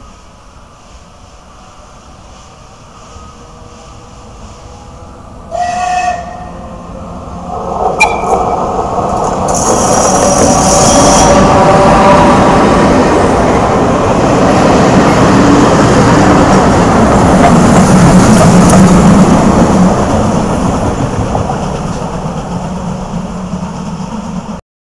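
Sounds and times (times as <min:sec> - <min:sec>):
train wheels rumbling on rails: 0:00.0 - 0:24.6.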